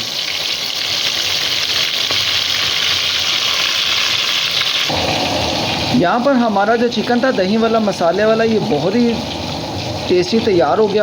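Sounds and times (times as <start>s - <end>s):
chicken frying in oil: 0.0s - 11.0s
low fuller sizzle: 0.0s - 11.0s.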